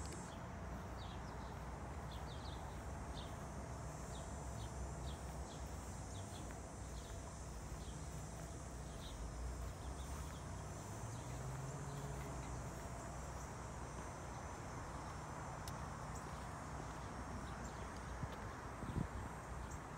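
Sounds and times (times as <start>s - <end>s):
insect chorus buzzing: 0.0s - 19.9s.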